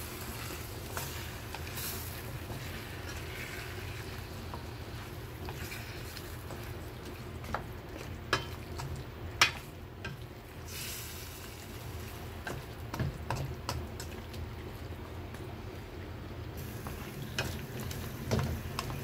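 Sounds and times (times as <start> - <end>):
food sizzling lightly: 0.0 - 16.0, 16.6 - 19.0.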